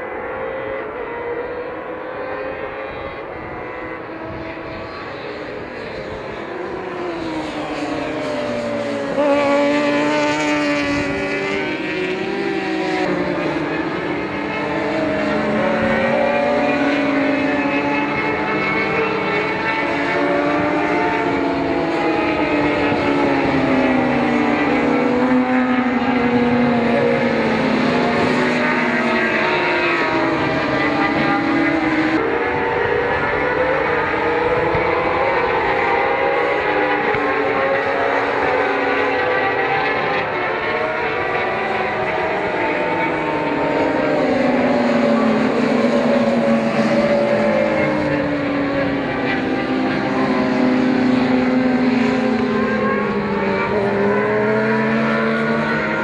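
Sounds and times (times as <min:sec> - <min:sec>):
sportbike engines revving past: 0:06.1 - 0:56.0.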